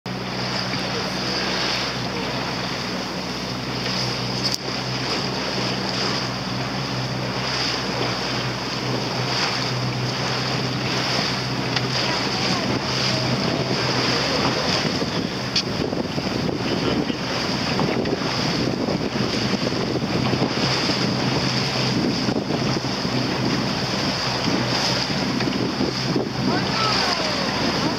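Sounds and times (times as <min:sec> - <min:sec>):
outboard motor humming: 0:00.0 - 0:27.9
water splashing along hull: 0:00.0 - 0:27.9
wind buffeting microphone: 0:00.1 - 0:27.9.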